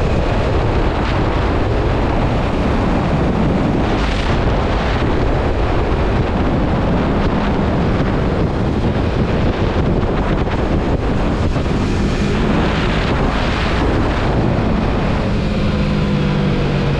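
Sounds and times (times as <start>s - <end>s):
motorcycle engine hum: 0.0s - 16.9s
wind buffeting microphone: 0.0s - 16.9s.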